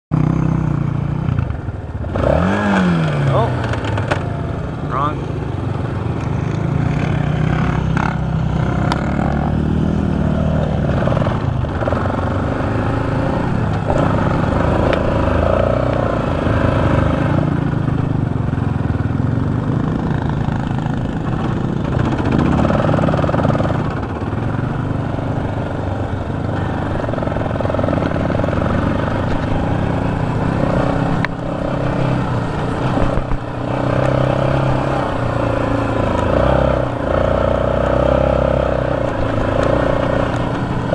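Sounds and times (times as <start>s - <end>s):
quad engine revving: 0.1s - 5.3s, 6.3s - 40.9s.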